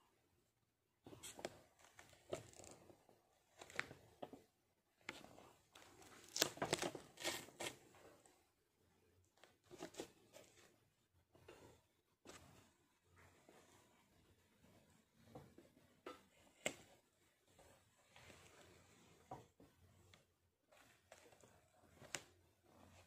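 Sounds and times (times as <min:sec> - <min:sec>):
faint rustling and crinkling: 0:01.0 - 0:23.0.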